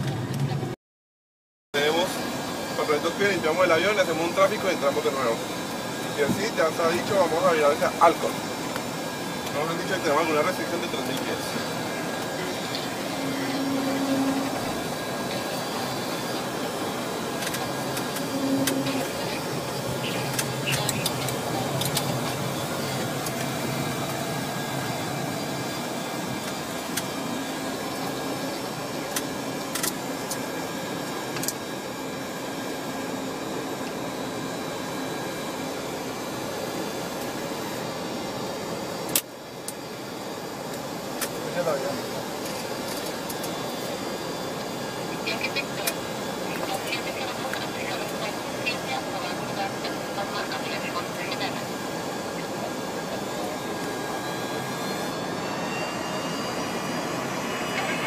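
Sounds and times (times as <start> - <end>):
jet engines taxiing: 0.0 - 0.8, 1.8 - 58.0.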